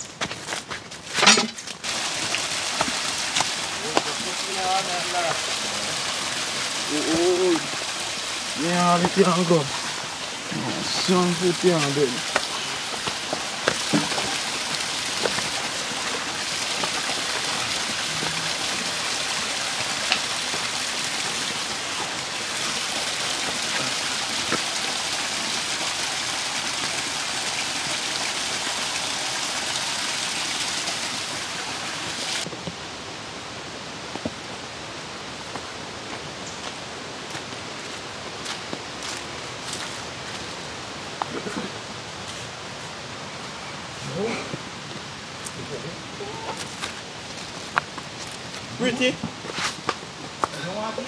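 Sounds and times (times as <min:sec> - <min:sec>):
rushing water hiss: 0:01.0 - 0:51.0.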